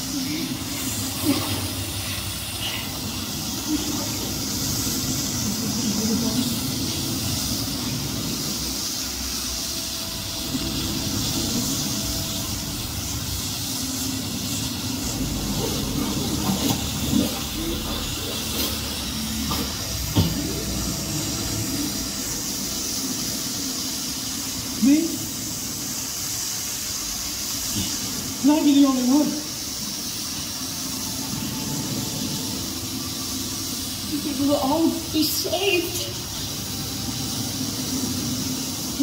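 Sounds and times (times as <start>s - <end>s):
water spray hissing rush: 0.0s - 39.0s.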